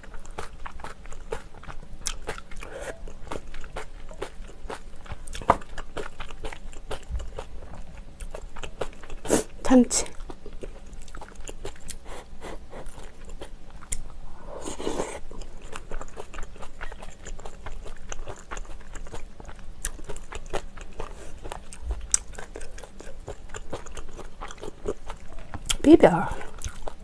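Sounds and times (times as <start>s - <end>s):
close chewing with wet mouth clicks: 0.0s - 14.2s, 14.8s - 27.0s.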